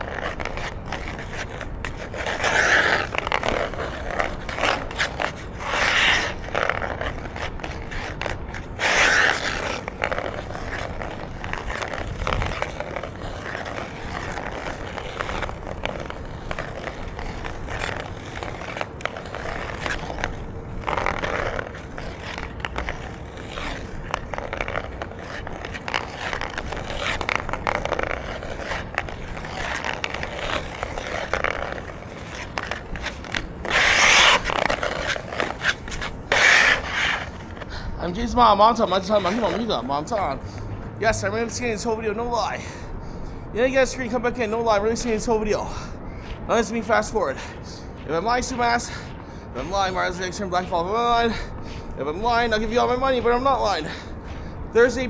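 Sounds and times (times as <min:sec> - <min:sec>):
skate blades scraping on ice: 0:00.0 - 0:55.0.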